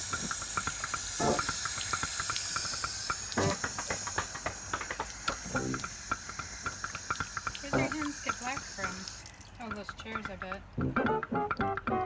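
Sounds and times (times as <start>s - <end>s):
small splashes and clicks: 0.0s - 12.0s
water running from a tap: 0.0s - 12.0s.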